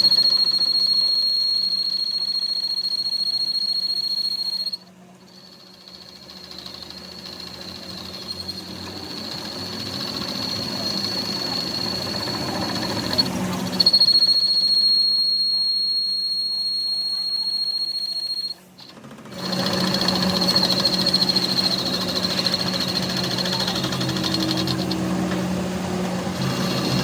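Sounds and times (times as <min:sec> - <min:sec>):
low machine hum: 0:00.0 - 0:27.0
machine whining: 0:00.0 - 0:27.0.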